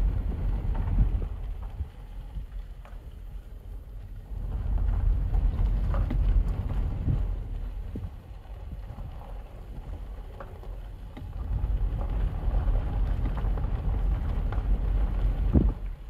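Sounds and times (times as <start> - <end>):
car road rumble: 0.0 - 16.0
wind on microphone: 0.0 - 16.0.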